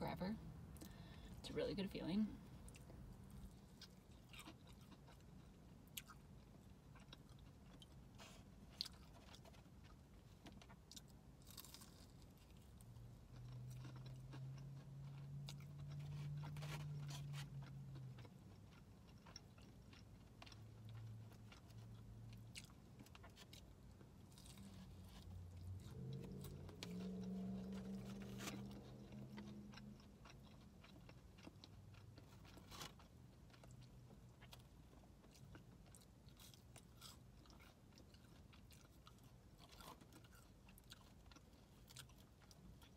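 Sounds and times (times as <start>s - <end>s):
low steady hum: 0.0s - 42.9s
crunchy chewing and biting: 2.6s - 42.9s.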